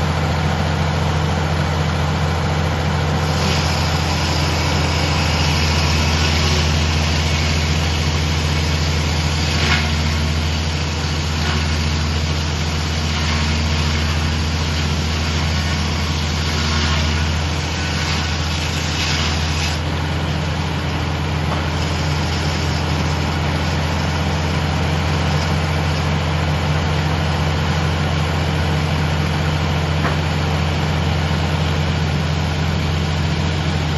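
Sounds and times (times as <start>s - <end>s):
sawmill engine droning: 0.0s - 33.9s.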